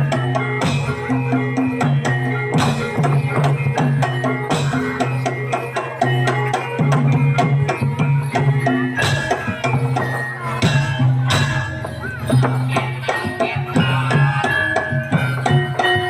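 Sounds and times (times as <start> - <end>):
drums and struck percussion: 0.0 - 16.0.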